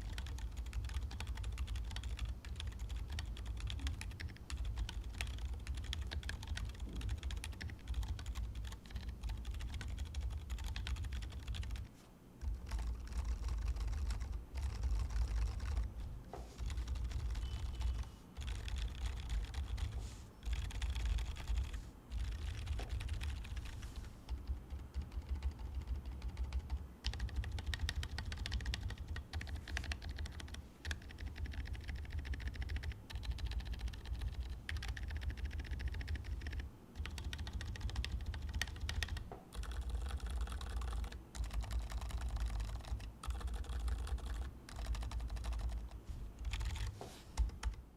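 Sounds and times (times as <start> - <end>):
typing on mechanical keyboard: 0.0 - 15.9, 16.6 - 47.8.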